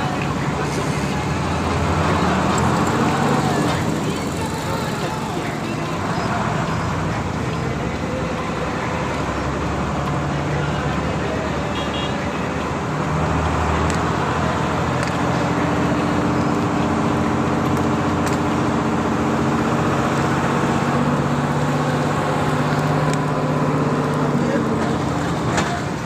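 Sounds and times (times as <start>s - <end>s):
traffic noise: 0.0s - 26.0s
vehicle engine humming: 0.0s - 26.0s.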